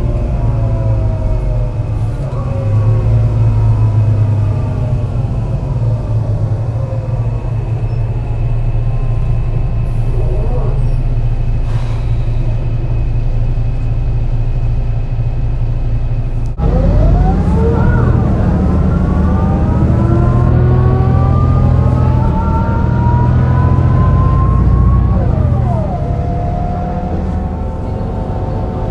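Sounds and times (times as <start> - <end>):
bus engine misfiring: 0.0 - 28.9
gearbox whine: 0.0 - 28.9.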